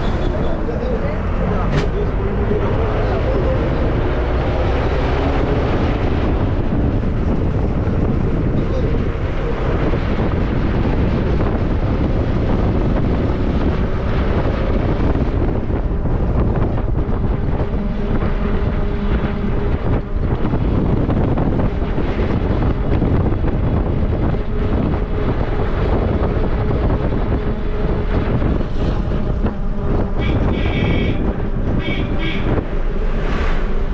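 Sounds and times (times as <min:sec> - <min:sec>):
vehicle engine and road noise: 0:00.0 - 0:33.9
wind rushing over microphone: 0:00.0 - 0:33.9.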